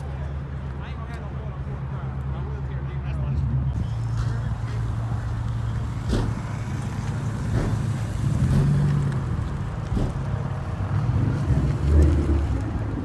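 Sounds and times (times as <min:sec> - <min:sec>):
car exhaust rumble: 0:00.0 - 0:13.0.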